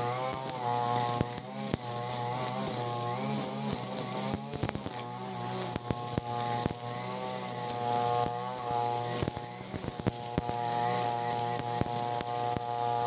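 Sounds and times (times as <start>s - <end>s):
brush cutter engine at full throttle: 0.0s - 13.0s
trimmer line swishing through grass: 0.0s - 13.0s.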